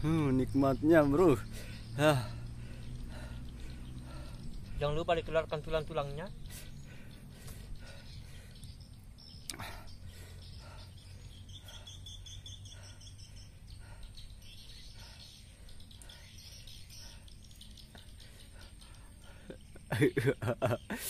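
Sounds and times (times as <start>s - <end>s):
steady low rumble: 0.0s - 20.6s
insects or birds chirping: 0.0s - 21.0s.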